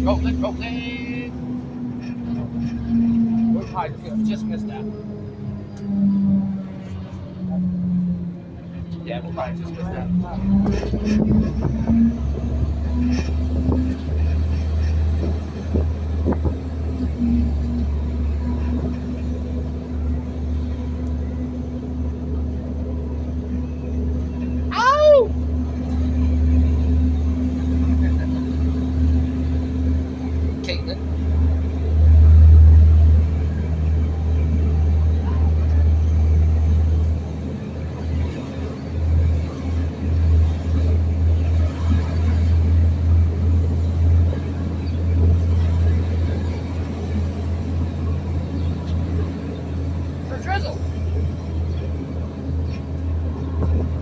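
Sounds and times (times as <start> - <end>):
garbage truck engine droning: 0.0 - 54.0.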